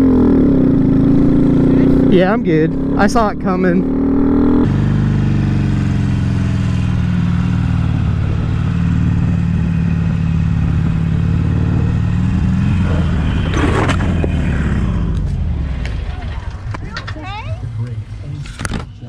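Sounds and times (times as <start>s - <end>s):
motorcycle engine running: 0.0s - 18.4s.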